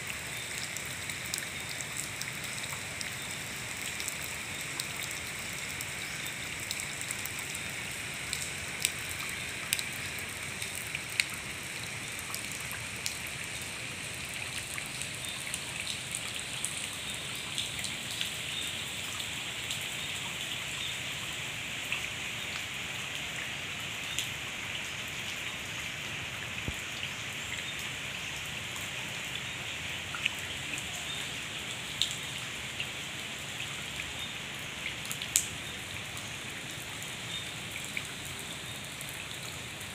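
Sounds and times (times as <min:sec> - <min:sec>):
rain on concrete and puddles: 0:00.0 - 0:39.9.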